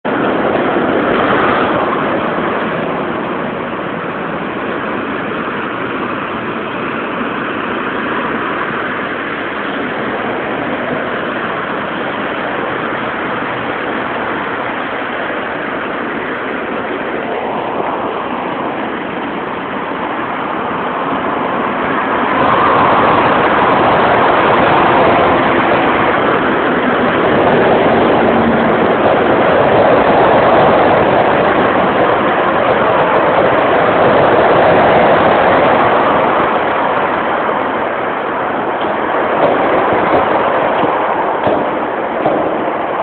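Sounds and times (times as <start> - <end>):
road traffic noise: 0.0 - 43.0
vehicle passing: 0.0 - 43.0.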